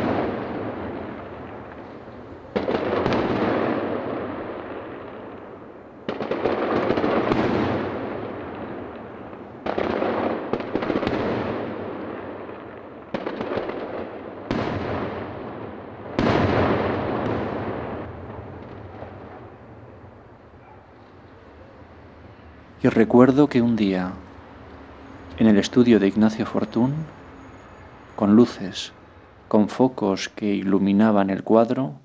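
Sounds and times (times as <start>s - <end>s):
firework booms: 0.0s - 30.4s
firework crackling: 0.0s - 31.1s.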